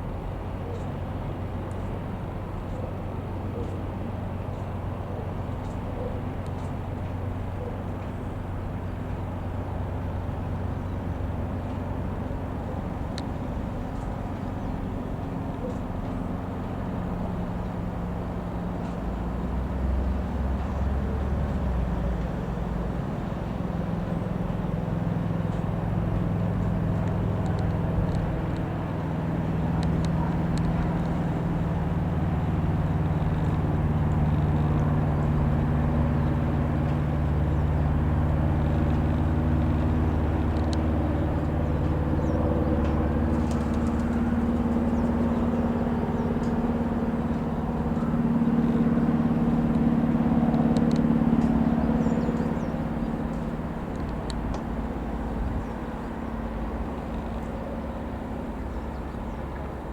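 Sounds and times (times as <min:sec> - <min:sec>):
light aeroplane engine droning: 0:00.0 - 0:59.9.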